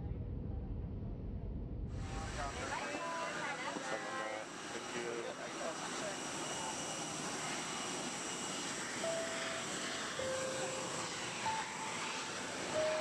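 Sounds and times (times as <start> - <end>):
airliner cabin noise: 2.0 - 13.0.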